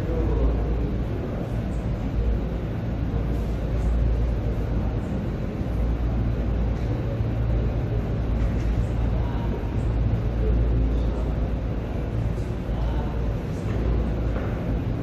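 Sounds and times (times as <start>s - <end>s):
low room noise rumble: 0.0s - 15.0s.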